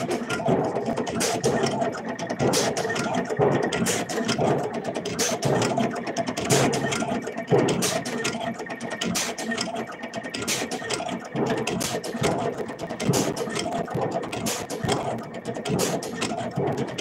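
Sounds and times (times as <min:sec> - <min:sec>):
blade block clicking: 0:00.0 - 0:17.0
machine feed motors whirring: 0:00.0 - 0:17.0.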